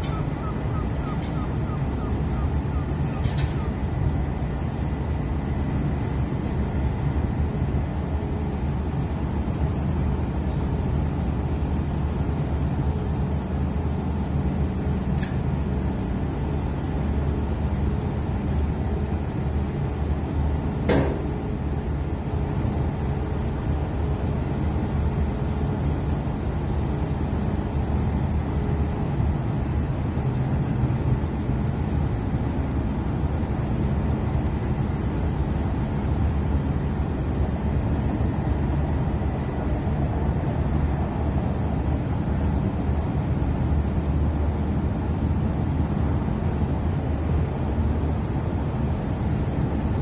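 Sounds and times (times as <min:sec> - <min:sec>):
ship engines rumbling: 0:00.0 - 0:50.0.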